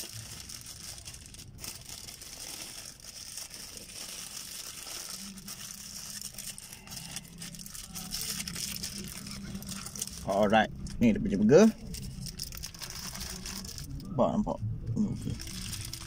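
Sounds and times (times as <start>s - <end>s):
paper wrapper crinkling: 0.0s - 14.1s, 15.2s - 16.0s
low hum: 0.0s - 16.0s.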